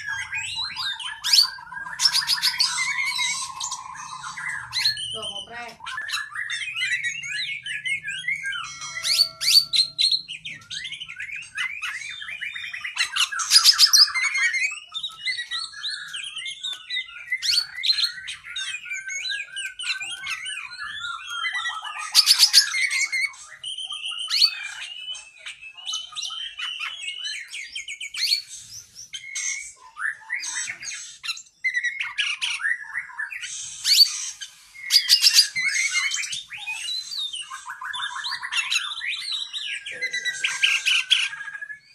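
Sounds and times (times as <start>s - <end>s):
bird singing whistled phrases: 0.0s - 41.9s.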